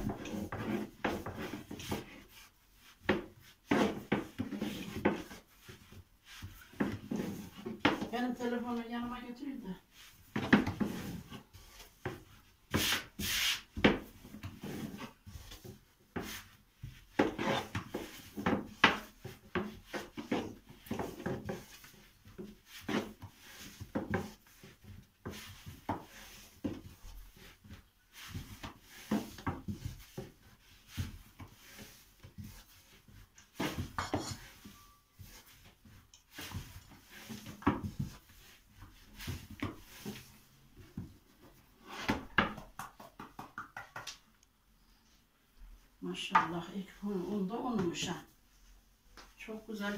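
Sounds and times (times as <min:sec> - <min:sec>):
rolling pin rubbing over dough: 0:00.0 - 0:42.8.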